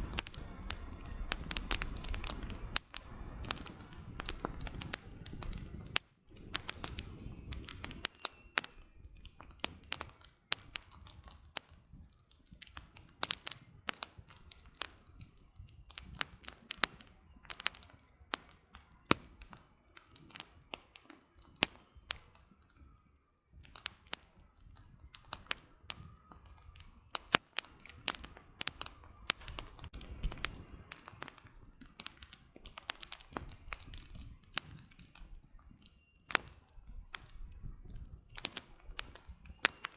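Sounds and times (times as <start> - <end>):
low rush of flame: 0.0 - 20.5, 23.6 - 39.9
firewood crackling and popping: 0.0 - 39.9.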